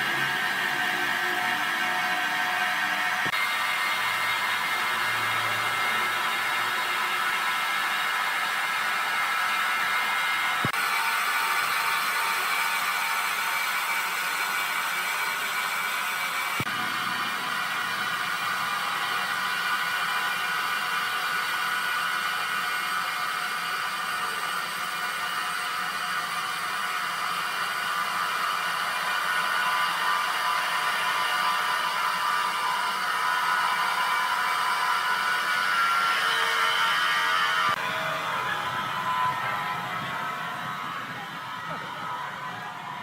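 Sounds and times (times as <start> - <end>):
wood-cutting machinery whirring: 0.0 - 43.0.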